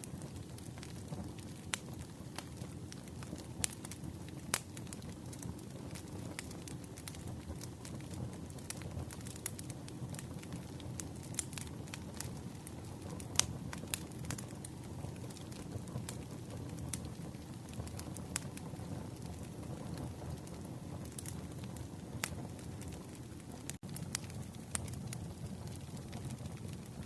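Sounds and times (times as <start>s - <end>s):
burning wood popping and snapping: 0.0s - 27.0s
flame rumbling: 0.0s - 27.0s.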